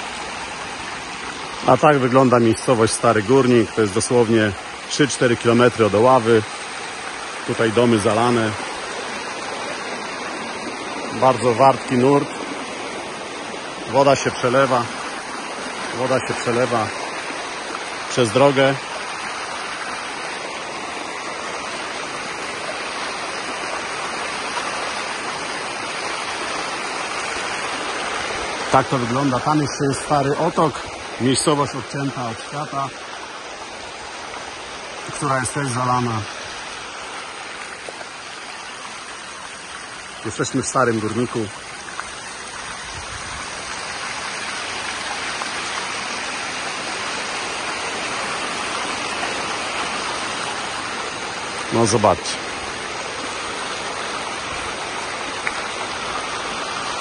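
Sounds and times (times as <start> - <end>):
floodwater rushing: 0.0 - 57.0.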